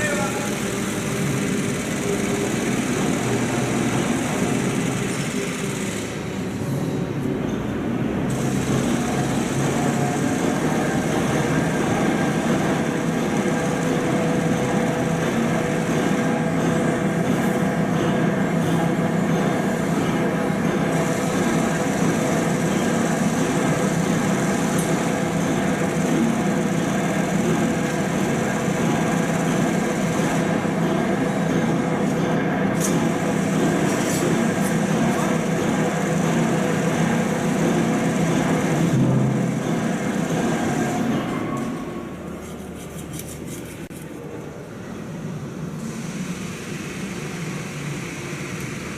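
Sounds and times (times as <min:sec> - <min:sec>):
heavy machinery drone: 0:00.0 - 0:42.7.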